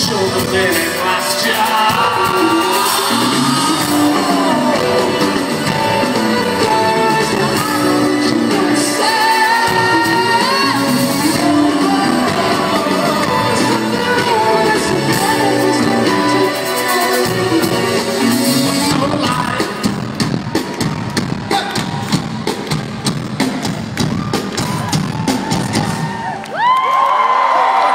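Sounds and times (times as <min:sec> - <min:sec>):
drum and cymbal hits: 0:00.0 - 0:16.0, 0:17.6 - 0:26.3
live rock band playing: 0:00.0 - 0:26.2.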